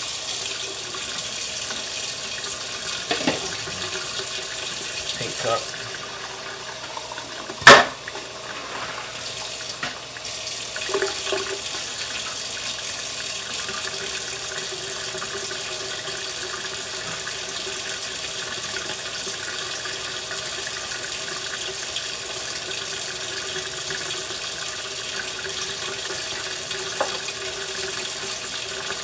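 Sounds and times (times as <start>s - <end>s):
faucet running into metal sink: 0.0s - 29.0s.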